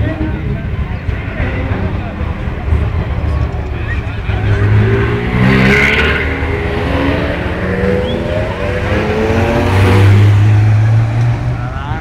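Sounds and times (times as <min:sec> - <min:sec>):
sports car engines passing: 0:00.0 - 0:12.0.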